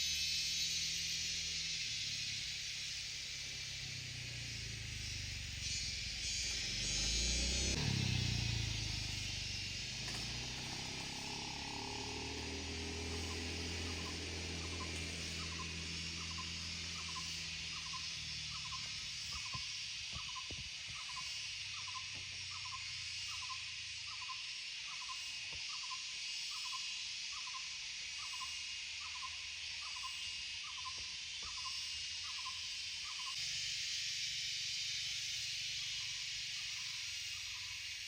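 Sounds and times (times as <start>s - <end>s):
high insect drone: 0.0s - 38.0s.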